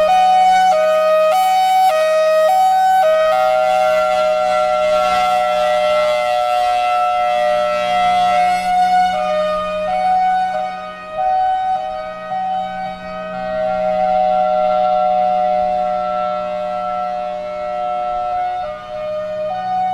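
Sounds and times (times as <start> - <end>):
warning siren: 0.0 - 19.9.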